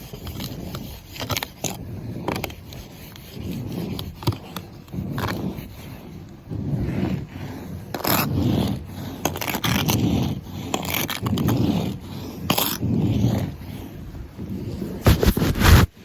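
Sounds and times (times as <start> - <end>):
snow scraper scraping car: 0.0 - 16.0.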